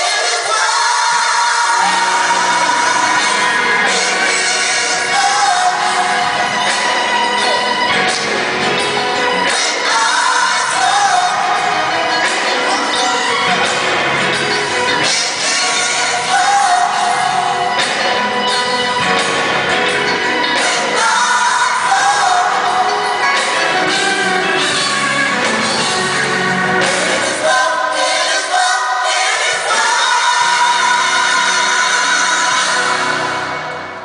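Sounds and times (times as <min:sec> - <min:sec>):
music with singing: 0:00.0 - 0:34.0.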